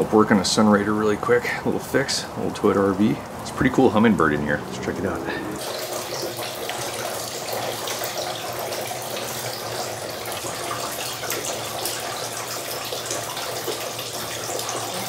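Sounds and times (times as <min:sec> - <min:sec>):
steady rain hiss: 0:00.0 - 0:12.5
small drips and splashes: 0:00.0 - 0:15.0.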